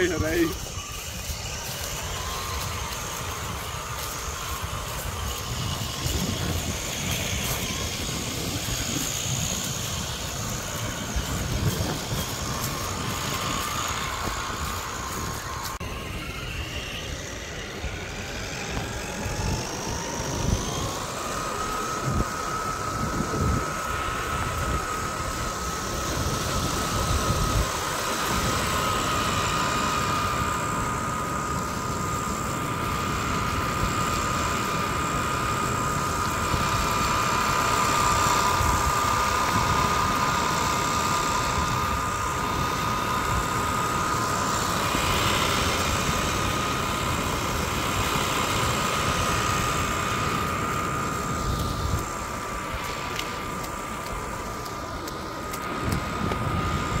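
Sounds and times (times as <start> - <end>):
low rumble over rough ground: 0.0 - 57.0
radio-controlled car motor whine: 0.0 - 57.0.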